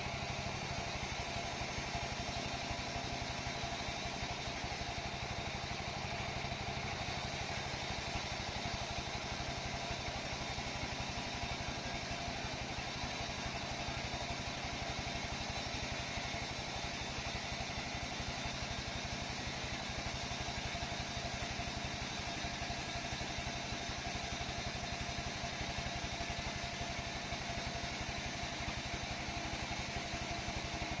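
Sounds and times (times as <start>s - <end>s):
sawmill saw motor drone: 0.0s - 31.0s.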